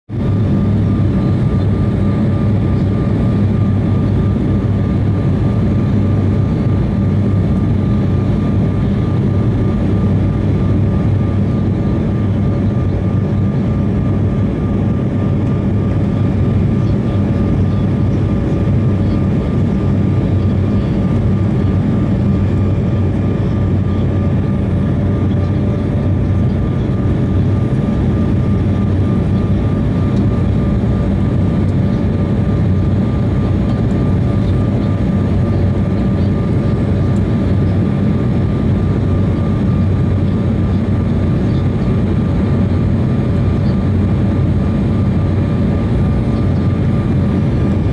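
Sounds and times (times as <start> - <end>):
jet engine cabin rumble: 0.1 - 47.9
thin engine whine: 0.2 - 47.9.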